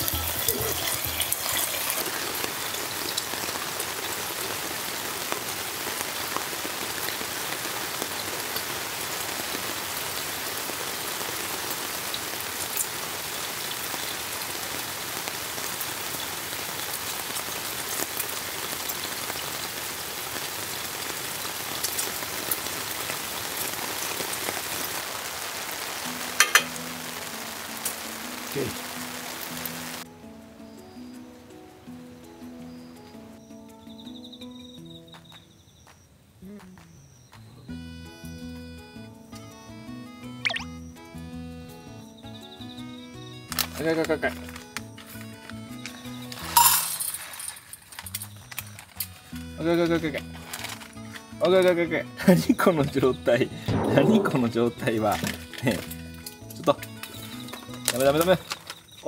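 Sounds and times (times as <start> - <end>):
heavy rain hissing: 0.0 - 33.3, 38.9 - 59.0.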